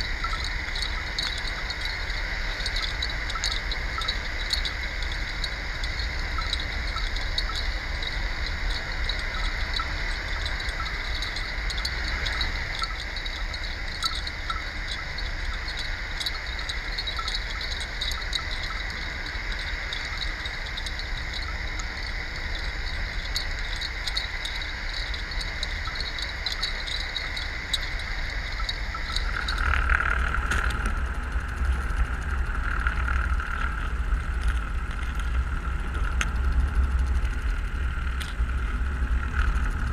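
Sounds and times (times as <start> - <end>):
underwater hiss and low rumble: 0.0 - 39.9.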